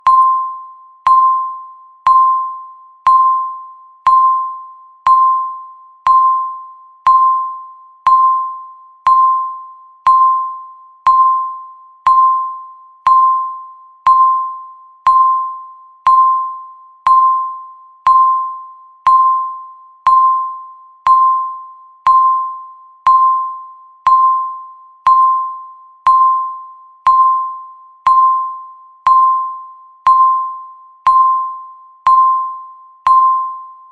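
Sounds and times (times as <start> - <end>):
electronic timer beep: 0.0 - 33.9.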